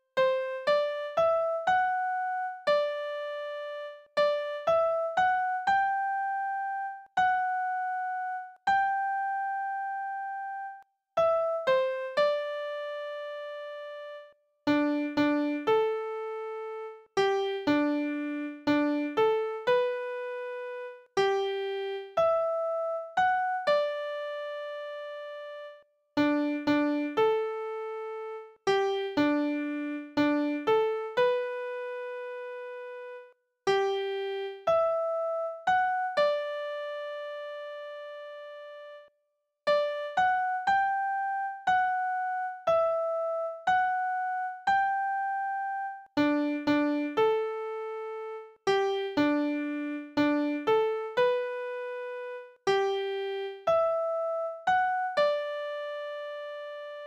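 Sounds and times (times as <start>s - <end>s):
slow electric piano melody: 0.0s - 39.1s, 39.7s - 57.0s.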